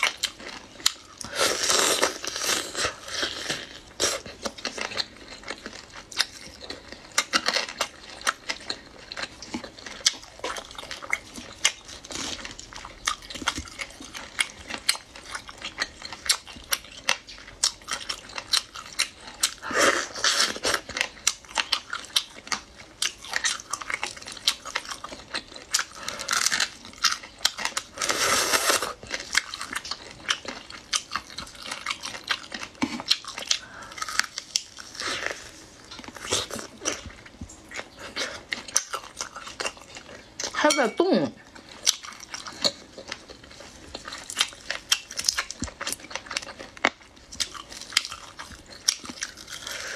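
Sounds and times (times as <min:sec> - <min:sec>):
close eating and chewing: 0:00.0 - 0:49.9.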